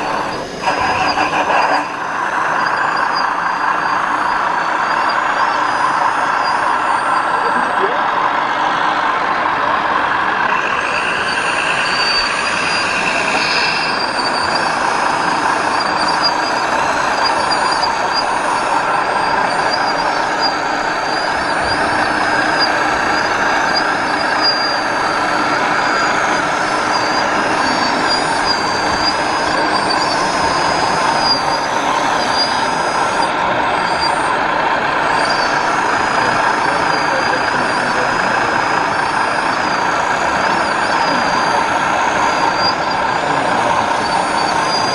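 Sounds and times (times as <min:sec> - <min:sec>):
toy trucks whining: 0:00.0 - 0:44.9.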